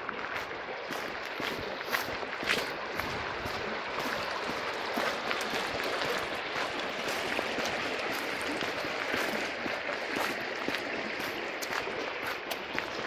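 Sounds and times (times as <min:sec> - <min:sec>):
shallow river flowing: 0:00.0 - 0:13.0.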